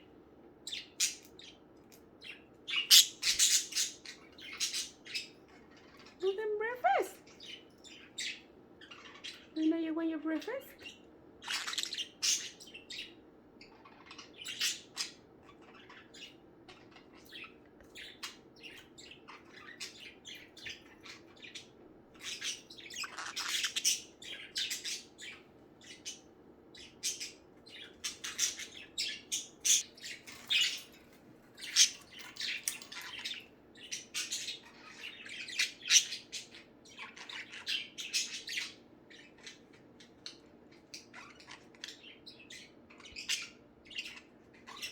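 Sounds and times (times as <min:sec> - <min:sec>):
budgerigars chirping and squawking: 0:00.6 - 0:44.9.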